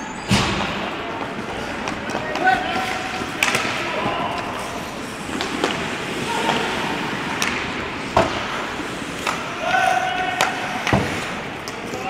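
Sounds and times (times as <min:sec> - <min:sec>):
players calling: 0:00.0 - 0:12.0
hockey sticks and puck clacking: 0:00.2 - 0:12.0
skates scraping on ice: 0:00.6 - 0:12.0.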